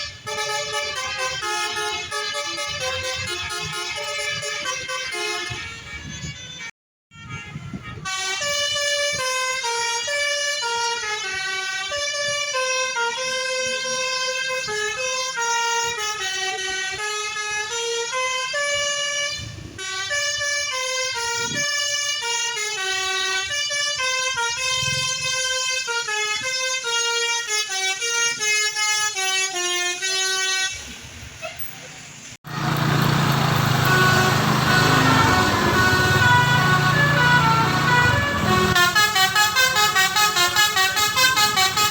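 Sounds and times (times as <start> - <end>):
bus air horn melody: 0.0 - 30.9, 33.4 - 41.9.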